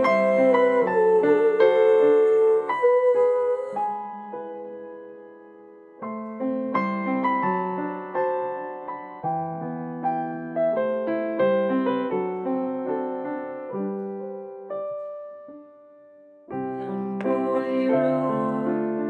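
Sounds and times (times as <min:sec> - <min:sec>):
slow gentle piano melody: 0:00.0 - 0:19.0.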